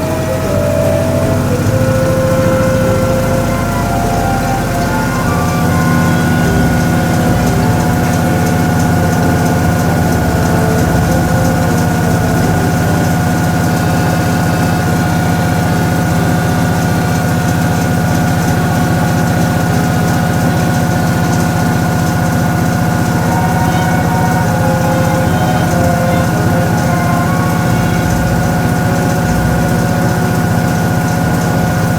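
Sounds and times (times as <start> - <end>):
steady whine: 0.0 - 31.9
washing machine motor hum: 0.0 - 31.9.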